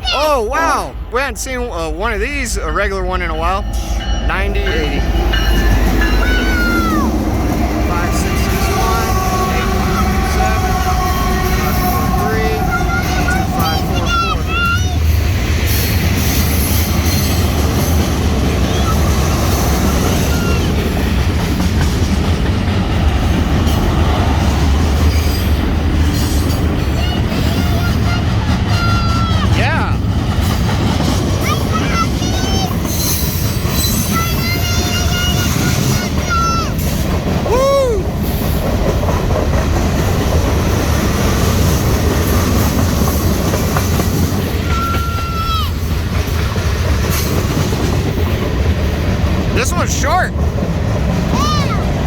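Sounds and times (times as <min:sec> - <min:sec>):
freight train rumbling on rails: 0:00.0 - 0:52.0.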